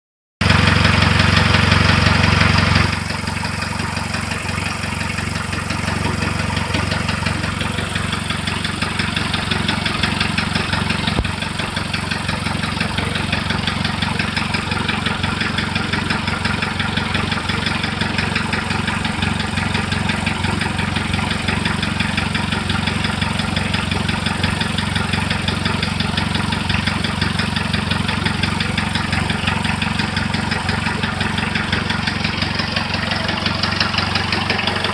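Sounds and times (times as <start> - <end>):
diesel engine knocking: 0.4 - 34.9.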